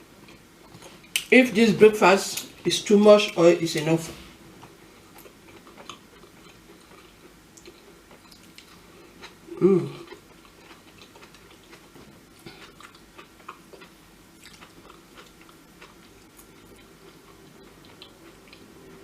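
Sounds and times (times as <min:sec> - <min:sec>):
person chewing food: 0:00.2 - 0:01.3, 0:04.5 - 0:19.0.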